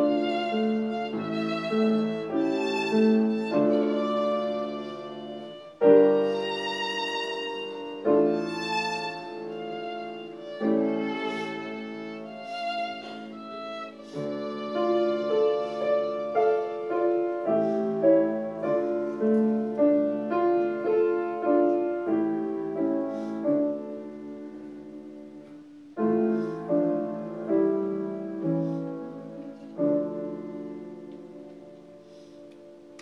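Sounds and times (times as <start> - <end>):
grand piano playing hymn chords: 0.0 - 33.0.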